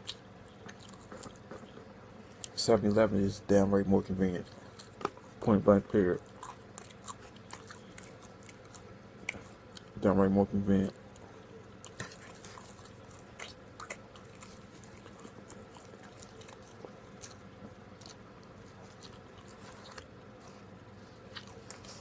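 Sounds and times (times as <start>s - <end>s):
chewing with mouth clicks: 0.0s - 2.6s, 4.3s - 10.0s, 10.9s - 22.0s
steady low hum: 0.0s - 22.0s.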